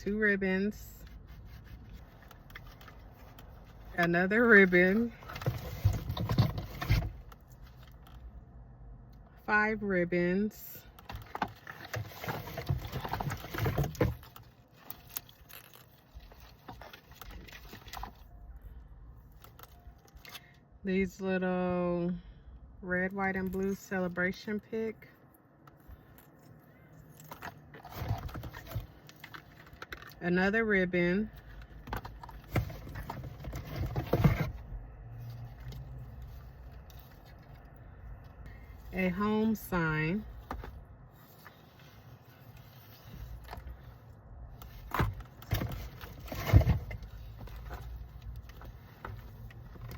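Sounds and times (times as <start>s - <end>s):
rustling and crinkling of craft items: 0.0s - 9.1s, 10.8s - 20.7s, 23.1s - 30.6s, 31.2s - 49.9s.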